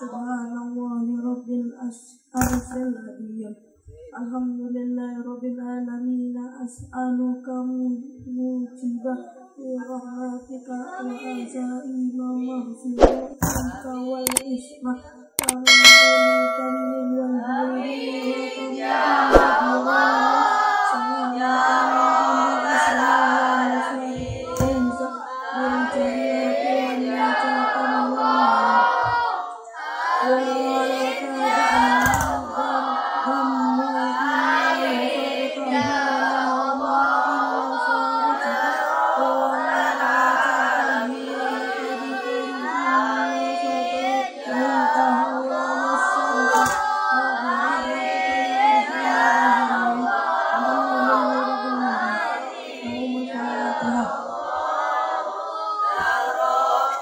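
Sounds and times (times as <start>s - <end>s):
boy chanting into a microphone: 0.0s - 16.0s, 17.1s - 57.0s.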